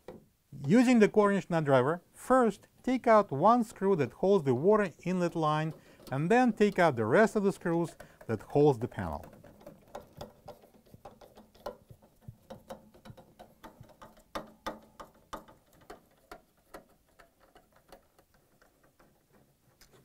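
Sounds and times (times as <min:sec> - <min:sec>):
nut driver clicking on screws: 0:02.8 - 0:20.0.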